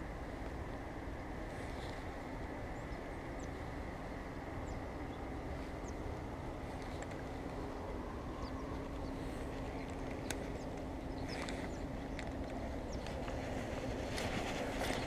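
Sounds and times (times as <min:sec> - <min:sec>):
faint hum: 0:00.0 - 0:15.0
steady low rumble: 0:00.0 - 0:15.0.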